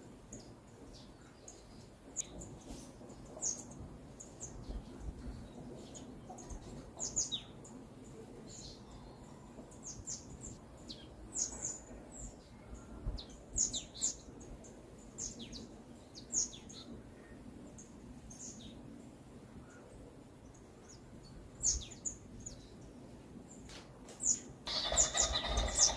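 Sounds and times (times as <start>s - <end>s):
small songbirds chirping: 0.0s - 25.9s.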